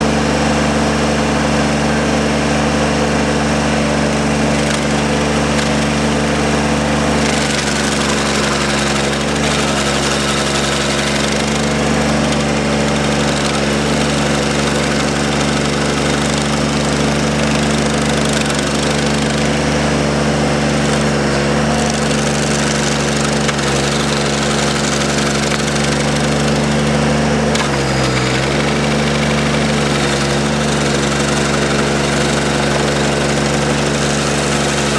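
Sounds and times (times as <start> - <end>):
skid steer engine running hard: 0.0 - 34.9
stump grinder grinding wood: 0.0 - 34.9.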